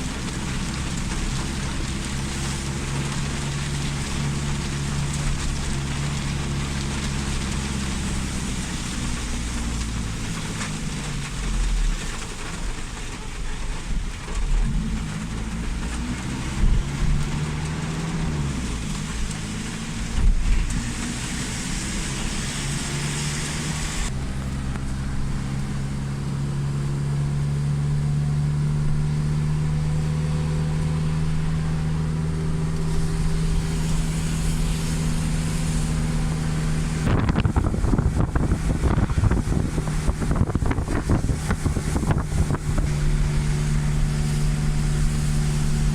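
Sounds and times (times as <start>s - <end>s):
wind crackling on microphone: 0.0s - 25.9s, 29.2s - 45.9s
heavy rain: 0.0s - 45.9s
vehicle engine running: 0.0s - 45.9s.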